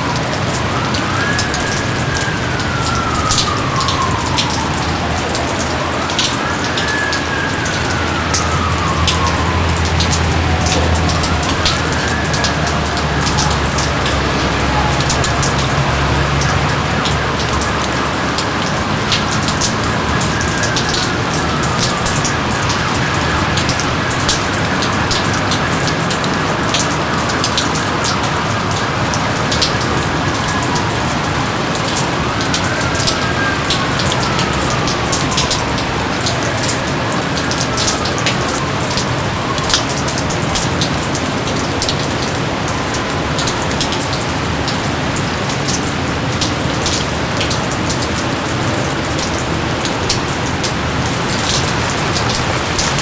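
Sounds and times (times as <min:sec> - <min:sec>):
heavy rain: 0:00.0 - 0:53.0
raindrops striking close by: 0:00.0 - 0:53.0.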